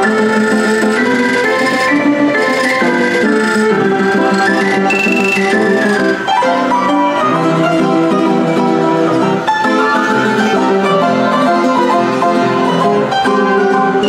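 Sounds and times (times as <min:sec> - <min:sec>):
player piano playing: 0:00.0 - 0:14.0.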